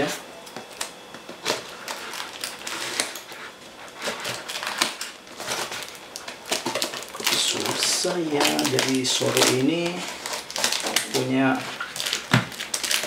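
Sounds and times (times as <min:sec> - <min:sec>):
wrapping crinkling: 0:00.6 - 0:13.0.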